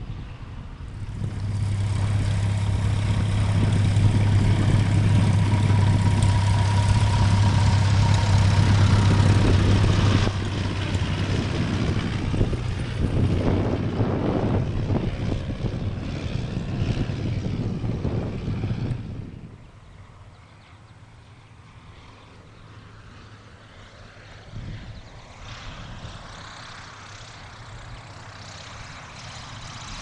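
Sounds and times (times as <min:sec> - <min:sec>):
propeller plane engine humming: 0:00.0 - 0:30.0.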